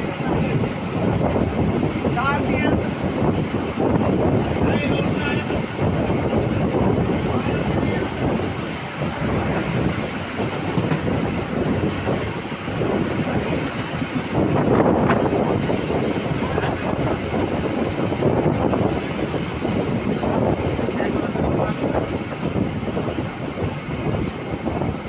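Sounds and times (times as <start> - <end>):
train running along track: 0.0 - 25.0.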